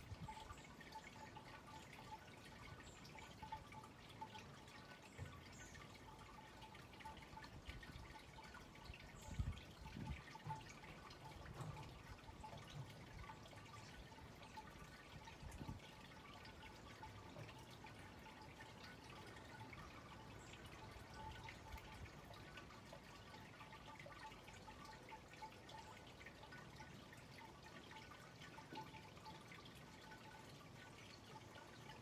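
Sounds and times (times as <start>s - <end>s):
faint steady tone: 0.0s - 32.0s.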